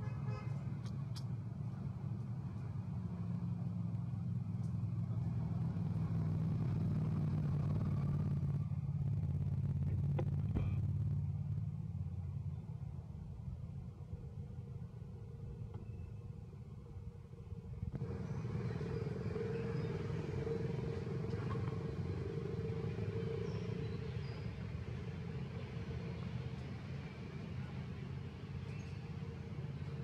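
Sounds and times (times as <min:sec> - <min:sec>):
low background rumble: 0:01.4 - 0:30.0.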